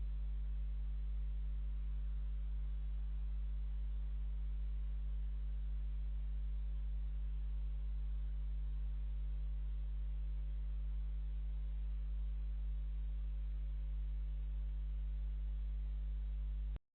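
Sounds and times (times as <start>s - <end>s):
low electrical hum: 0.0s - 16.8s.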